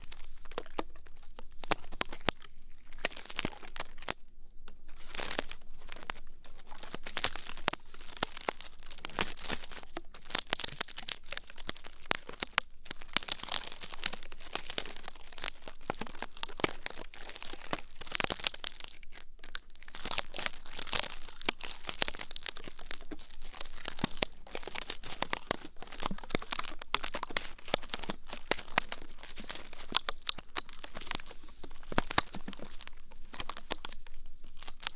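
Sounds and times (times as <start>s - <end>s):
ear cleaning crackling and scratching: 0.0s - 34.9s.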